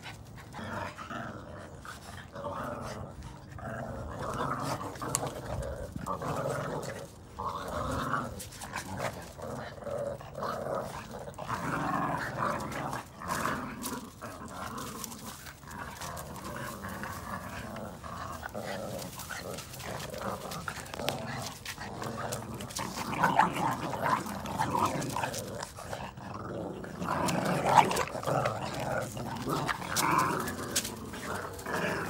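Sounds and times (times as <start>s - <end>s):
puppies play-growling: 0.0s - 32.0s.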